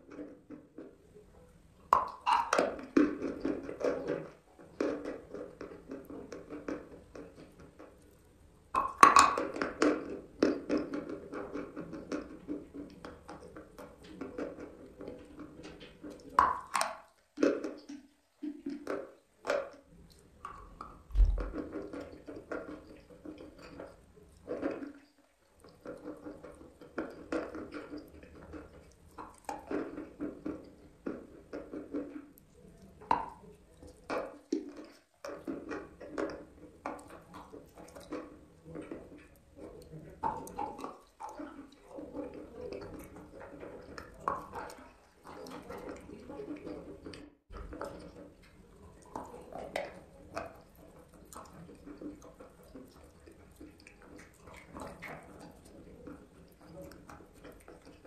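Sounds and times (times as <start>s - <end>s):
person chewing wetly: 1.7s - 58.0s.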